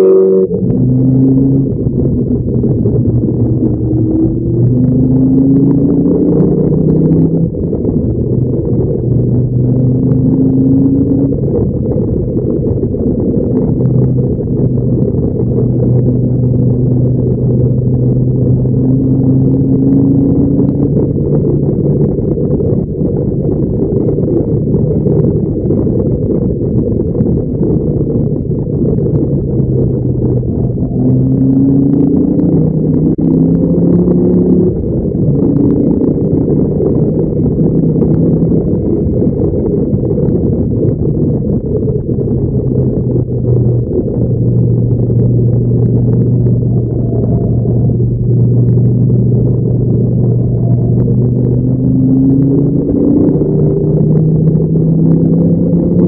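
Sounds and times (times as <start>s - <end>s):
car engine revving muffled: 0.0s - 56.0s
wind and road noise: 0.0s - 56.0s.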